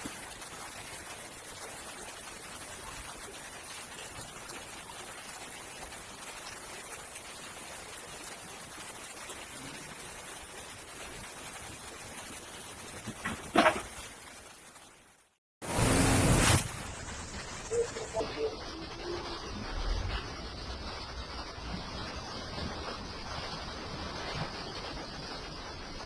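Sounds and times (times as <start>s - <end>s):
floodwater rushing: 0.0s - 15.0s, 15.6s - 25.8s
heavy rain: 0.0s - 26.0s.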